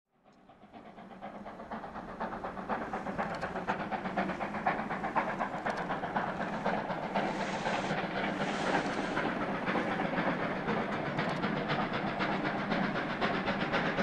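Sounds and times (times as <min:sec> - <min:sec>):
steam locomotive exhaust chuffing: 0:00.1 - 0:14.0
steam hiss: 0:00.5 - 0:14.0.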